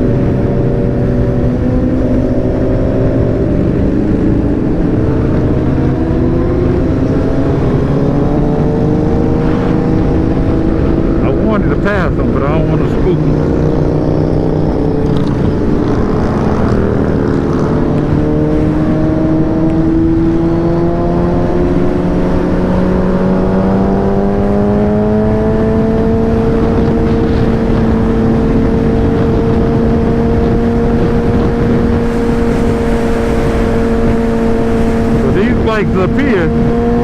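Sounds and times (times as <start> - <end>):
motorcycle engine accelerating: 0.0 - 37.0
wind on helmet microphone: 0.0 - 37.0.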